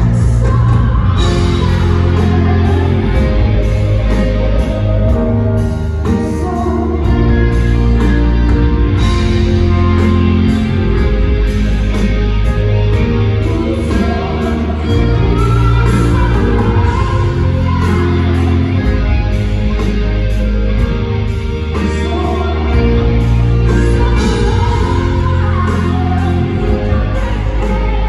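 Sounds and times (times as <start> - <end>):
person singing: 0.0 - 20.4, 21.7 - 28.0
bass: 0.0 - 28.0
drums: 0.0 - 28.0
electric guitar: 0.0 - 28.0.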